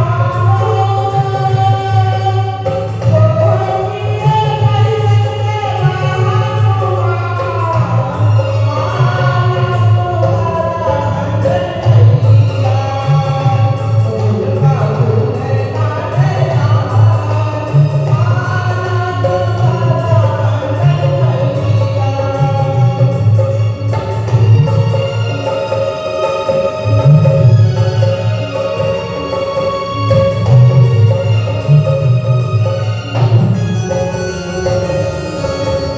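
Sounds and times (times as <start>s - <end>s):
low musical accompaniment: 0.0s - 35.9s.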